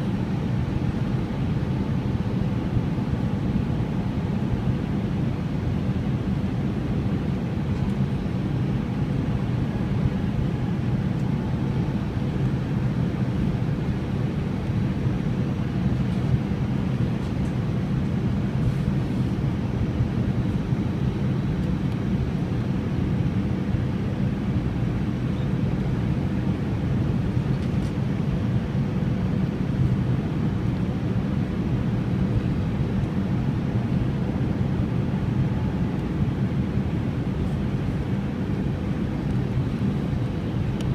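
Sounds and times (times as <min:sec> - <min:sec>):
faint steady hum: 0:00.0 - 0:40.9
jet engines and airflow: 0:00.0 - 0:40.9.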